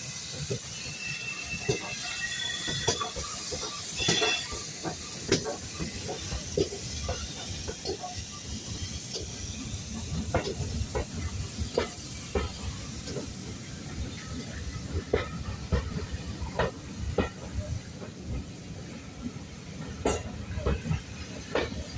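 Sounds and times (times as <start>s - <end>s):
steam locomotive hissing: 0.0s - 21.9s.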